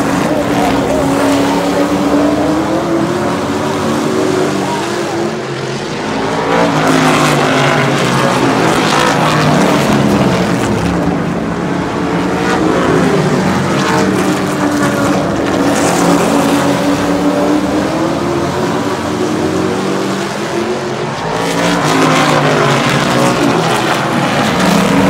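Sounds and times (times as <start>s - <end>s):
racing truck engines passing: 0.0s - 25.0s.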